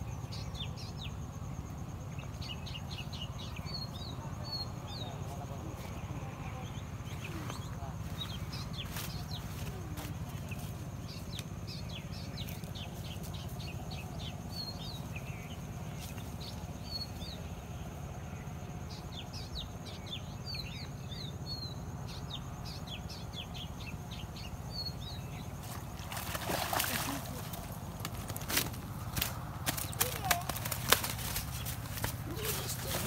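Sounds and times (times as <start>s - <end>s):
low outdoor rumble: 0.0s - 33.0s
small birds chirping: 0.0s - 33.0s.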